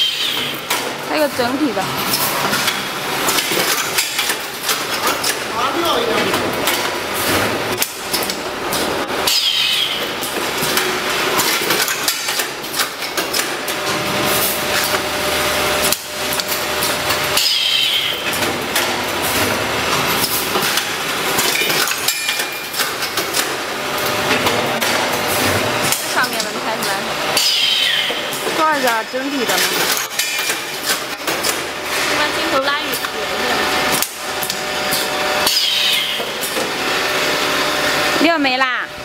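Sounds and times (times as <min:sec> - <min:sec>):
packing machine metallic clatter: 0:00.0 - 0:15.1, 0:15.7 - 0:36.8.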